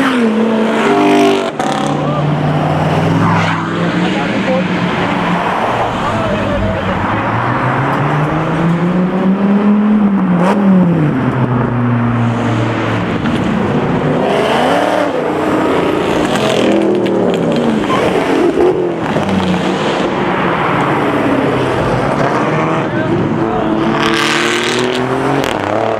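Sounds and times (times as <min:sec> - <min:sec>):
sports car engines revving: 0:00.0 - 0:25.9.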